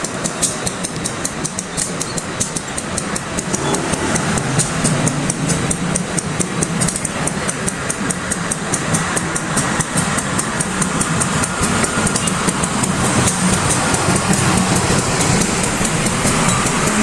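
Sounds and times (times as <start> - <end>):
locomotive engine running: 0.0 - 17.0
rapid even ticking: 0.0 - 17.0.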